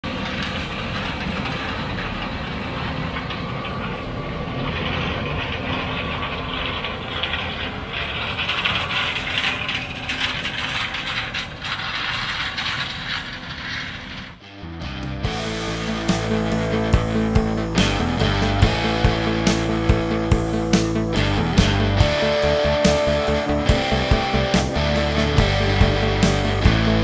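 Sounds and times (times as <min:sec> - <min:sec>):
harvest machinery rumbling and rattling: 0:00.0 - 0:27.0.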